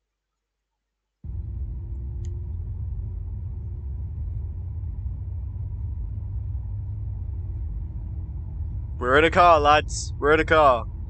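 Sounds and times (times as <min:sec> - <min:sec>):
faint steady hum: 0:00.0 - 0:11.0
car road and engine rumble: 0:01.2 - 0:11.0.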